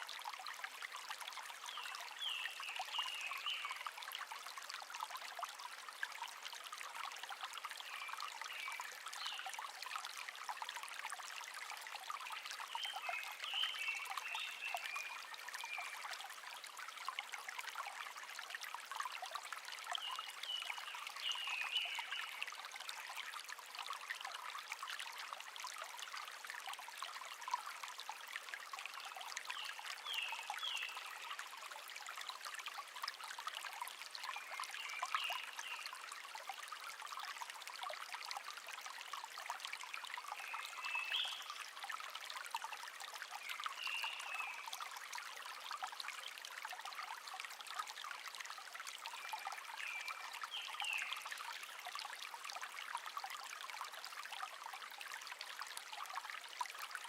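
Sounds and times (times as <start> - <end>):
small stream babbling: 0.0 - 57.0.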